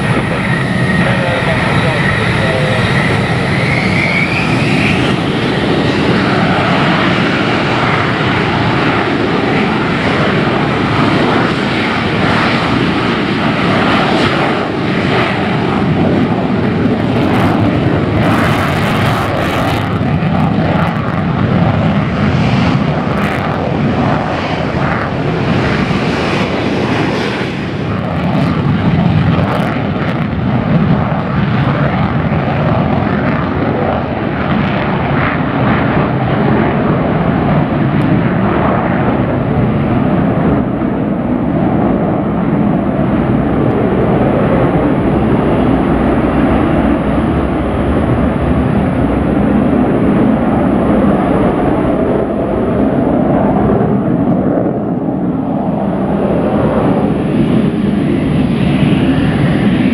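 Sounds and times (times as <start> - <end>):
jet engine roaring at takeoff: 0.0 - 59.9
rising jet whine: 0.0 - 59.9.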